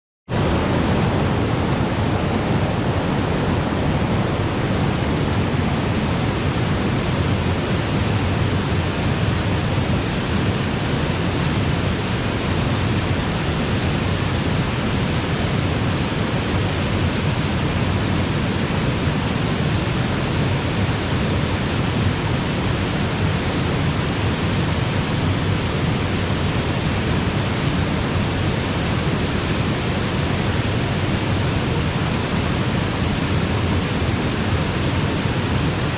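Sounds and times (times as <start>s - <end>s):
waterfall rushing: 0.3s - 35.9s.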